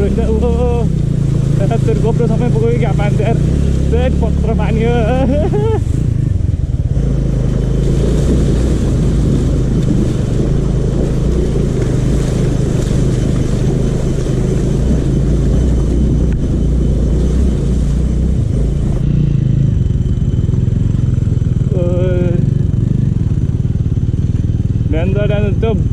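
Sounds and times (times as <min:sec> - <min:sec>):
rushing noise: 0:00.0 - 0:23.5
motorbike engine drone: 0:00.0 - 0:25.9.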